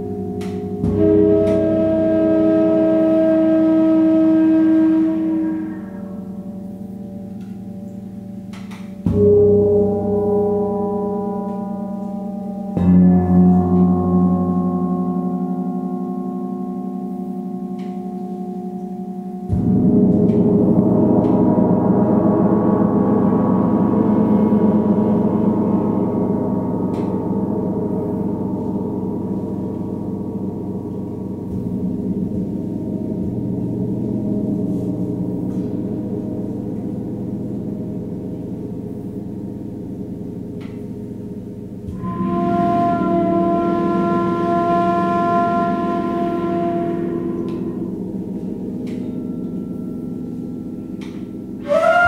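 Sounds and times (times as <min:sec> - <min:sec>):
large gongs ringing: 0:00.0 - 0:52.0.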